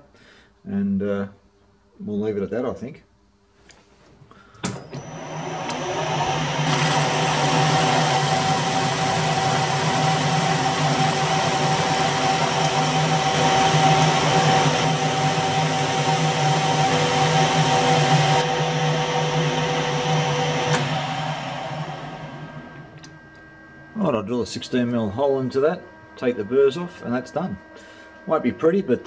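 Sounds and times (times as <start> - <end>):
metal lathe humming and whining: 5.0 - 29.0.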